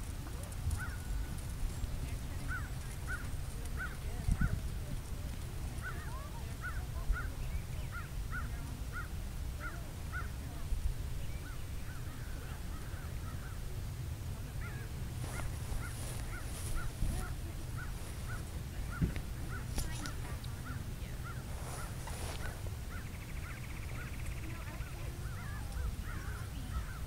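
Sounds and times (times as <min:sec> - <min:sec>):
steady low rumble: 0:00.0 - 0:27.0
bird calling: 0:00.4 - 0:05.0, 0:05.7 - 0:10.6, 0:11.2 - 0:13.8, 0:14.4 - 0:27.0.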